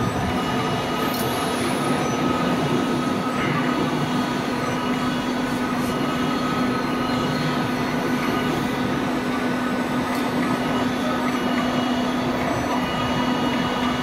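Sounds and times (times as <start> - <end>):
roll forming machine running: 0.0 - 14.0.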